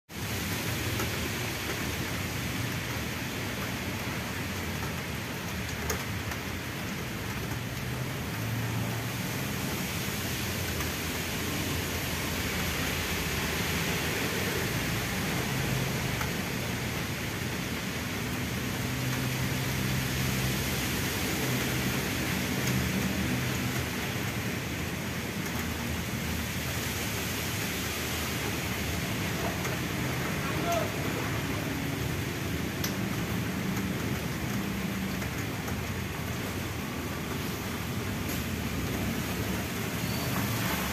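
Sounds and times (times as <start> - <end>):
rain falling on puddles: 0.1 - 40.9.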